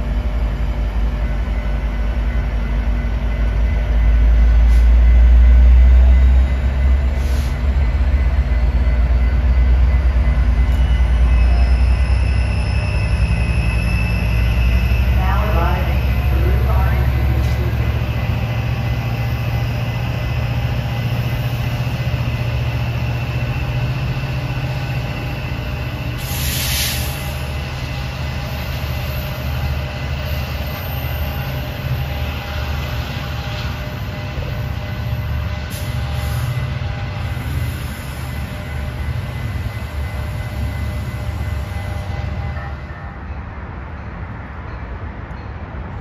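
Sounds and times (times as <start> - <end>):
diesel locomotive engine drone: 0.0 - 46.0.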